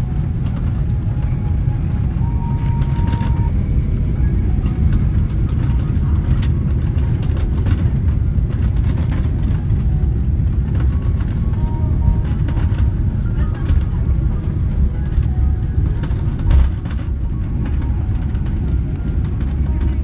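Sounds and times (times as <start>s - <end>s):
airliner engines and wheels rumbling: 0.0s - 20.0s.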